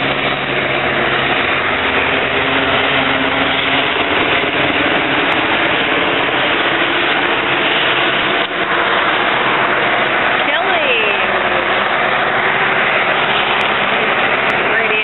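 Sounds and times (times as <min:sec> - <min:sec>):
cars driving past: 0:00.0 - 0:15.0
engine and tyre noise: 0:00.0 - 0:15.0.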